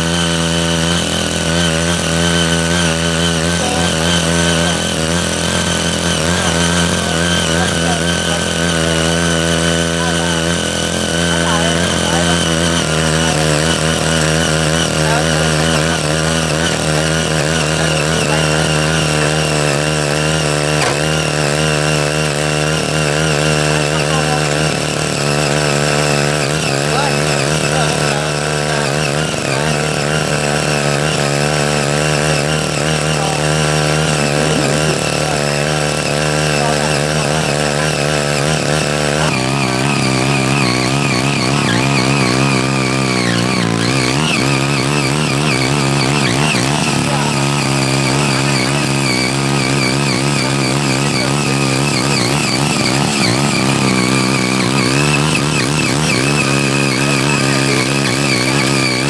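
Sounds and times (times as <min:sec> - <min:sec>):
tiller engine running: 0:00.0 - 0:59.0.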